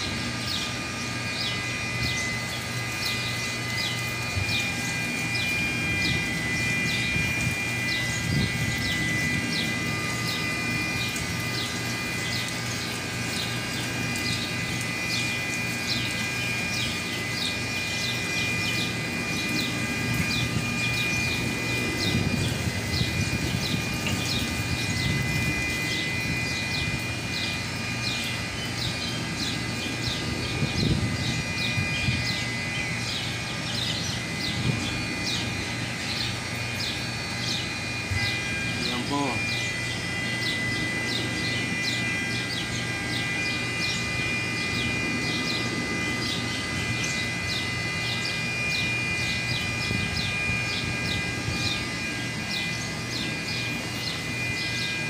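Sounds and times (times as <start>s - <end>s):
birds chirping: 0.0s - 55.0s
machinery drone with whining tones: 0.0s - 55.0s.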